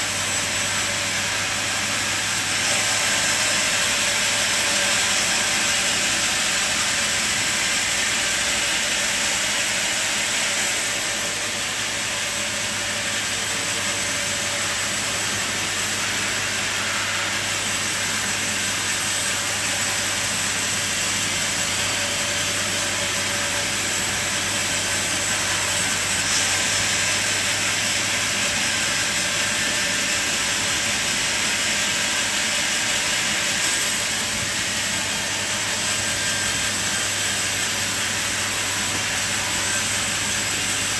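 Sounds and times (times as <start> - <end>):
sawmill machine running: 0.0 - 40.9.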